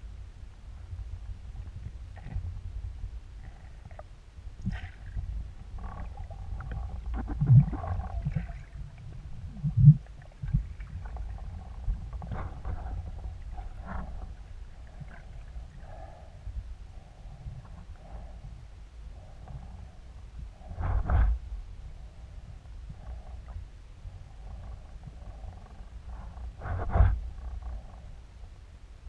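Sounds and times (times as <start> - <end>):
low rumble of water underwater: 0.0 - 29.0.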